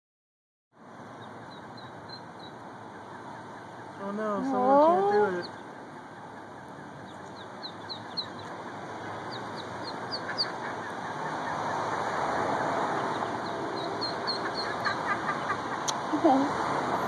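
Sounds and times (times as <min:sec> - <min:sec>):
ducklings peeping: 0:01.1 - 0:16.0.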